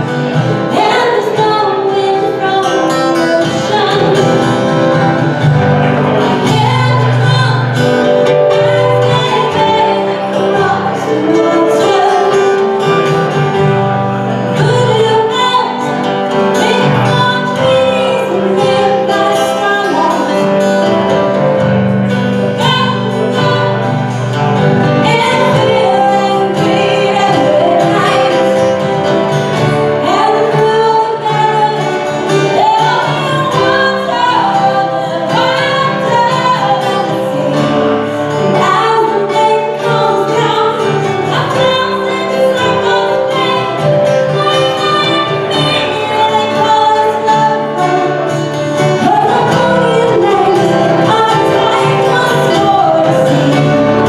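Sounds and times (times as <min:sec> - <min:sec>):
live band playing: 0:00.0 - 0:54.0
woman singing lead: 0:00.0 - 0:54.0.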